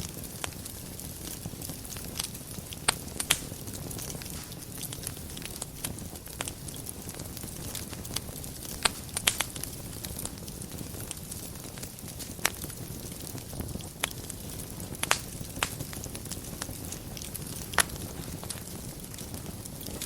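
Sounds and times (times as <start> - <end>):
fire crackles and pops: 0.0 - 20.0
fire rumble: 0.0 - 20.0.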